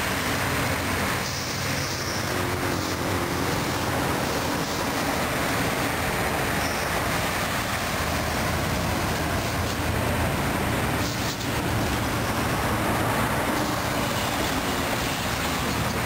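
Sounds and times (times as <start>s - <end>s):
highway traffic: 0.0s - 16.0s.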